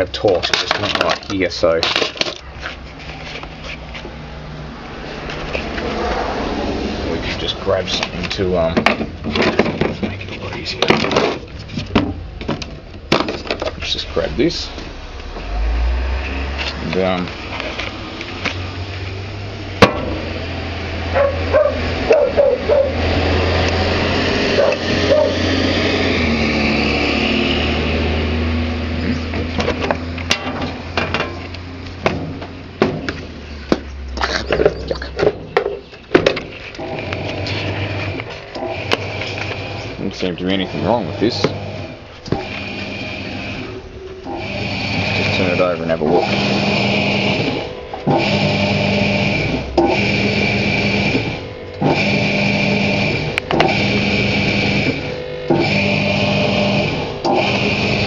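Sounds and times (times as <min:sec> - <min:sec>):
washing machine motor running: 0:04.2 - 0:33.7, 0:36.4 - 0:58.0.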